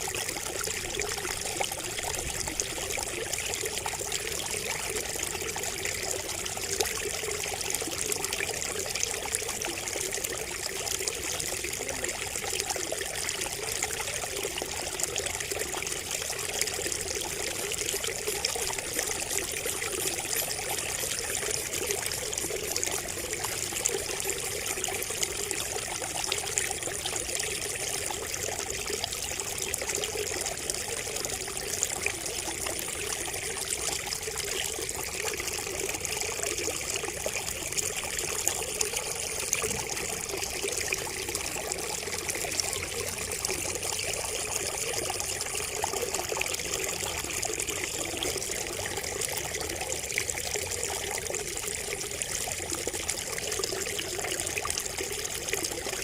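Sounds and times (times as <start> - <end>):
water trickling from spout: 0.0 - 56.0.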